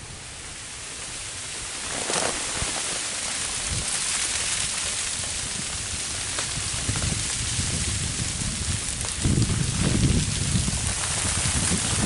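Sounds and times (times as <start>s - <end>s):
freezing rain pattering on branches: 0.0s - 12.0s
sharp crackle: 0.0s - 12.0s.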